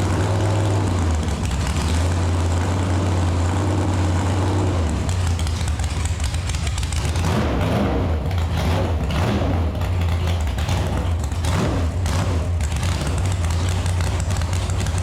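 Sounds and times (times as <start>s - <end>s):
heavy engine exhaust note: 0.0s - 15.0s.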